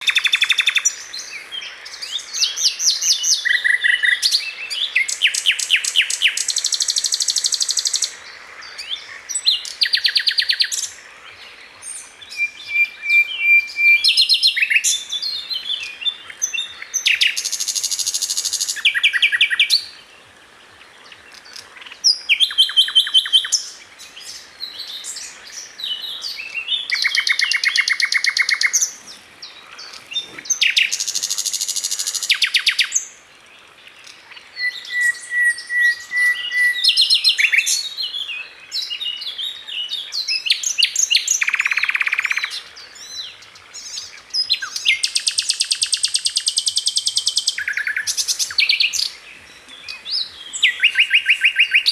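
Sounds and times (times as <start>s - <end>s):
songbirds singing in trills: 0.0s - 51.9s.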